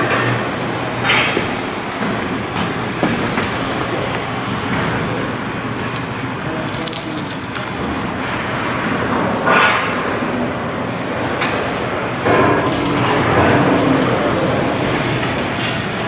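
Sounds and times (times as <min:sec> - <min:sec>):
rough industrial din: 0:00.0 - 0:16.0.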